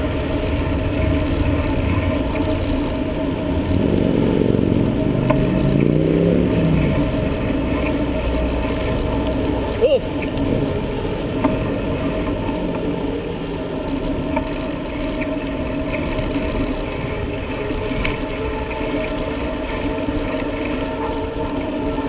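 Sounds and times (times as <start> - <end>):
bicycle road rumble: 0.0 - 22.0
faint steady drone: 0.0 - 22.0
wind noise: 0.0 - 22.0.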